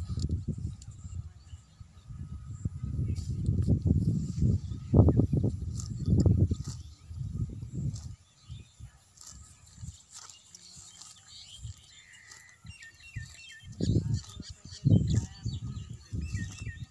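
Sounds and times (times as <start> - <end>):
small bird chirping: 0.1 - 16.9.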